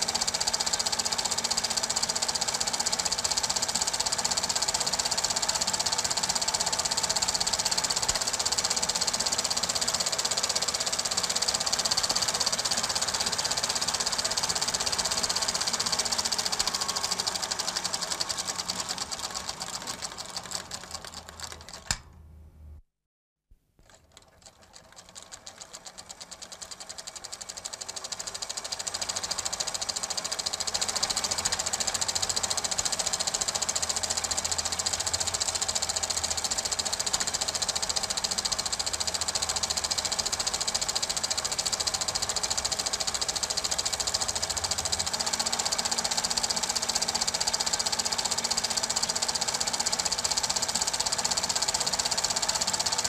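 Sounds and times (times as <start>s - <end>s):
film projector clattering: 0.0s - 22.1s, 23.8s - 53.0s.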